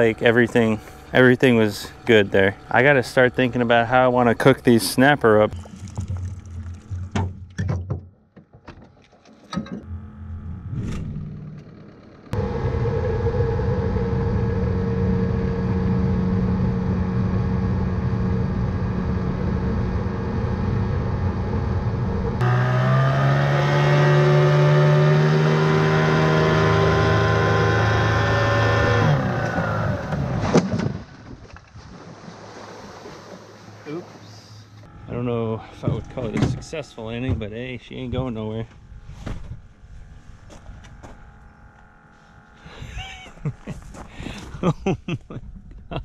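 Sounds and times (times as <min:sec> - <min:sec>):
outboard motor running: 0:00.0 - 0:07.6, 0:09.8 - 0:39.0, 0:39.9 - 0:44.5.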